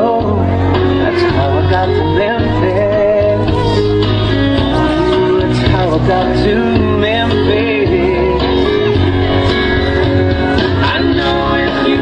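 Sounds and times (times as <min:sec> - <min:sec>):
country song with singing: 0:00.0 - 0:12.0
guitar: 0:00.0 - 0:12.0
steady bass beat: 0:00.0 - 0:12.0.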